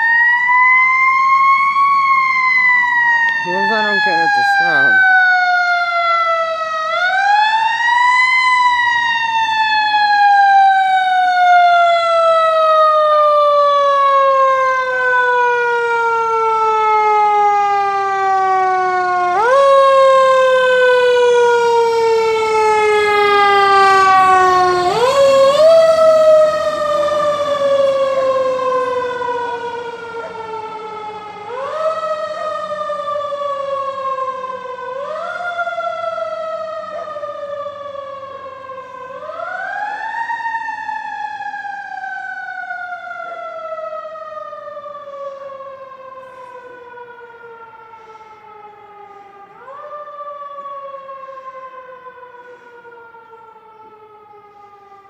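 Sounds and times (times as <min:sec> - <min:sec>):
fire truck siren wailing: 0:00.0 - 0:55.0.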